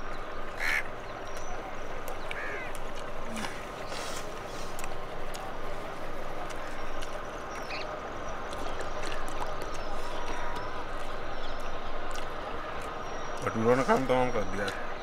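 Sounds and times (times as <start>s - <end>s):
steady background noise: 0.0s - 15.0s
voices: 0.0s - 15.0s.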